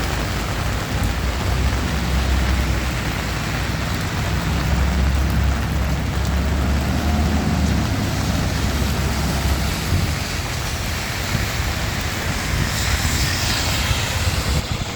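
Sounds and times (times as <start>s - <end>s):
rain falling on street: 0.0s - 14.9s
traffic rumbling: 0.0s - 14.9s
vehicle hiss on wet road: 0.0s - 14.9s.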